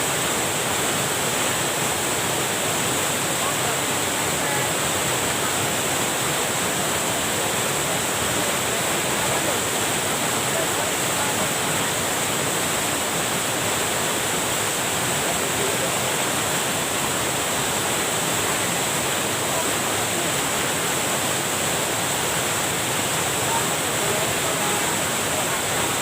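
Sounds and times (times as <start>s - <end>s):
water pouring over waterfall: 0.0s - 26.0s.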